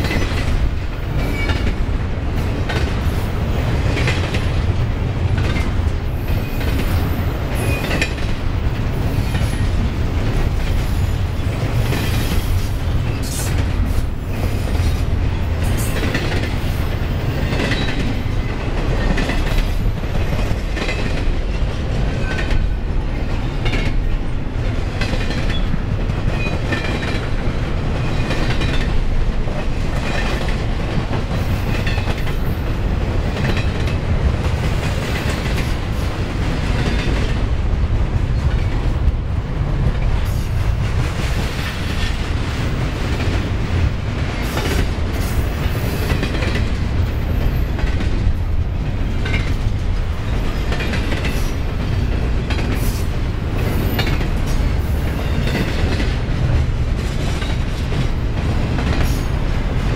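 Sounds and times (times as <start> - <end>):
wheels clacking over rail joints: 0.0 - 37.5, 38.3 - 59.9
train wheels rumbling on rail: 0.0 - 59.9.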